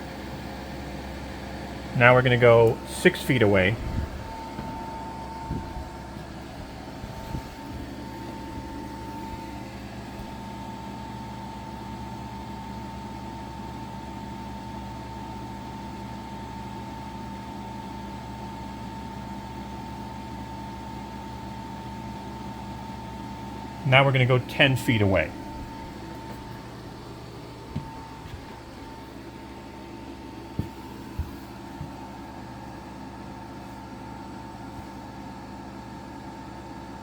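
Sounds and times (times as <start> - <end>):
air conditioner fan drone: 0.0 - 37.0.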